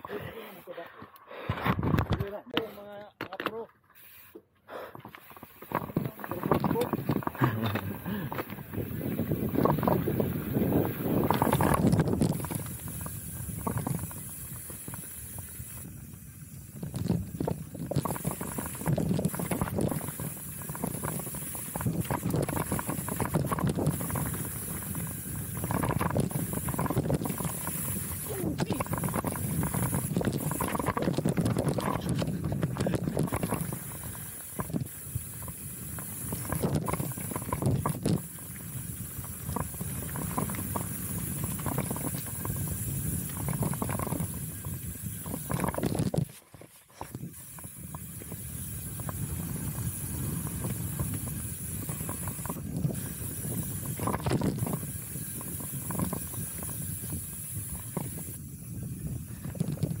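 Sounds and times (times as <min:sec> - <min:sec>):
tyres and wind rushing: 0:05.0 - 0:46.4, 0:47.0 - 1:00.0
bike knocking and rattling: 0:05.0 - 1:00.0.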